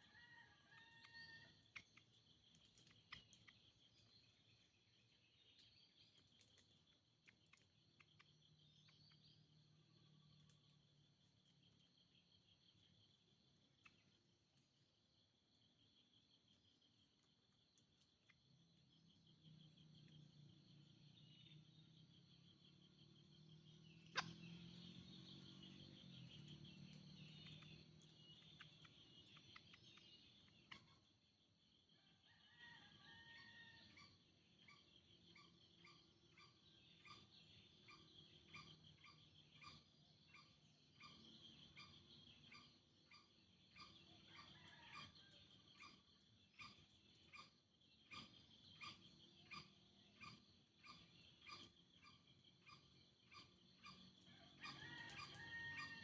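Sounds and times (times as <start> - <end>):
insect and frog chorus: 0.0 - 56.0.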